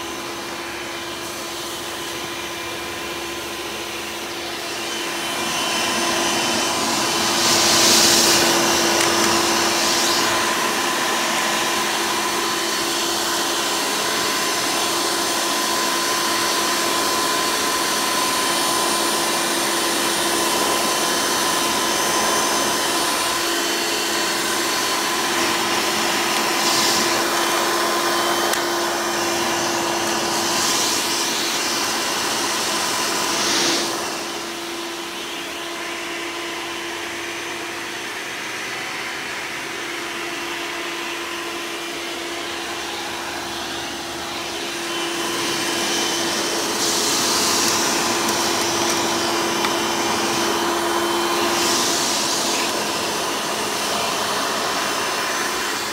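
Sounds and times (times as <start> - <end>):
vacuum cleaner whine: 0.0 - 55.9
vacuum hiss: 0.0 - 55.9.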